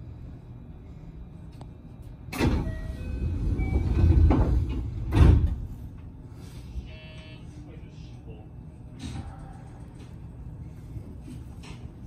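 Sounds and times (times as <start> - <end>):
rail and wheel noise: 0.0 - 12.0.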